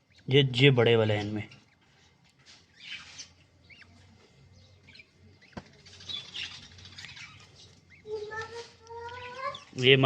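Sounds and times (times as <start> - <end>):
chicks squeaking and chirping: 0.0 - 10.0.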